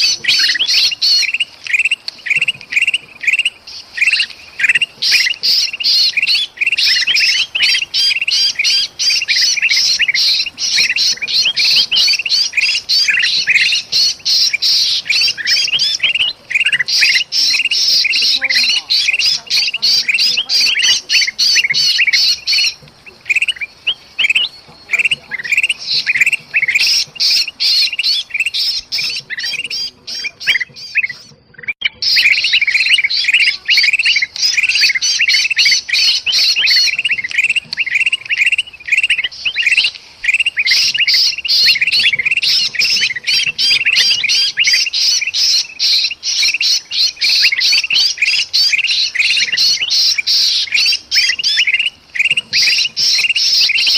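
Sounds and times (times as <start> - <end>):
bulbuls alarm chattering: 0.0 - 53.9.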